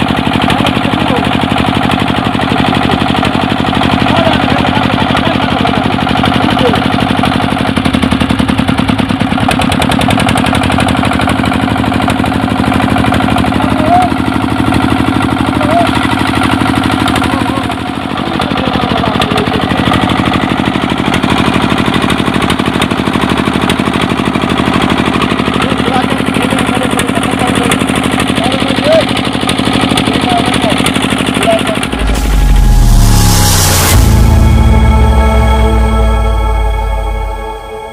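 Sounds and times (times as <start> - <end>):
boat engine chugging: 0.0 - 32.0.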